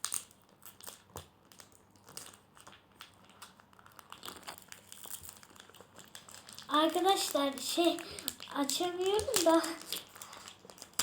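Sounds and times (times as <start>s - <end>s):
wrapper crinkling and rustling: 0.0s - 11.0s.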